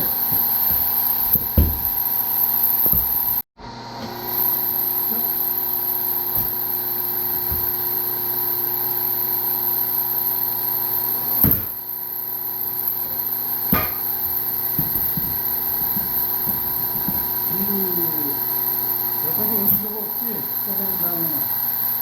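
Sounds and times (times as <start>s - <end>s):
hydraulic log splitter humming: 0.0s - 22.0s.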